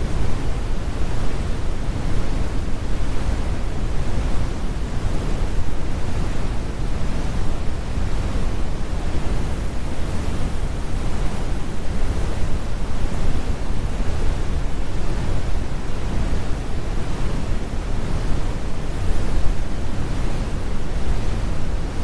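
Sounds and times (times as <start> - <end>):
brown noise: 0.0 - 22.0.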